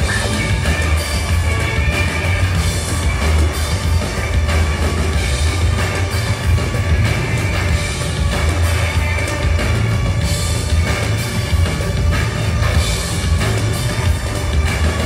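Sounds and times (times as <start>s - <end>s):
drum kit: 0.0s - 15.0s
electric bass: 0.0s - 15.0s
rock band playing: 0.0s - 15.0s.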